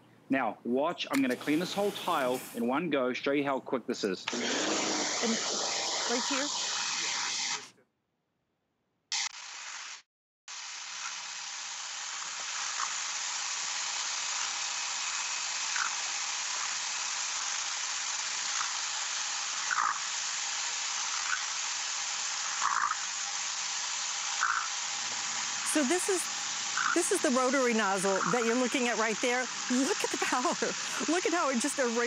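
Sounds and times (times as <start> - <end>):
pressure washer spraying hiss: 1.2 - 2.6, 4.3 - 7.7, 9.5 - 32.0.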